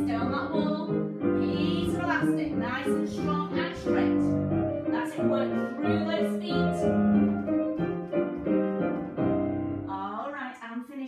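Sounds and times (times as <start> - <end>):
piano music: 0.0 - 10.2.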